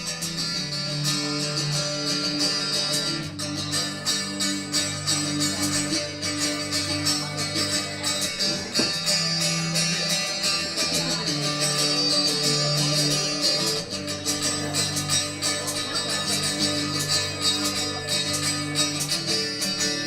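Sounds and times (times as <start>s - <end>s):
guitar strumming: 0.0s - 20.0s.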